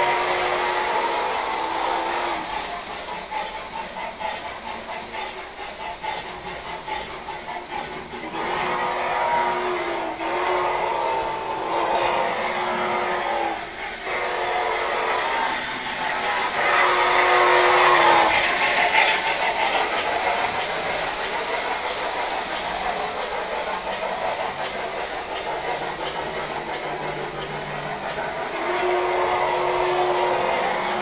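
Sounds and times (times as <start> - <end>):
model train wheels rumbling: 0.0 - 31.0.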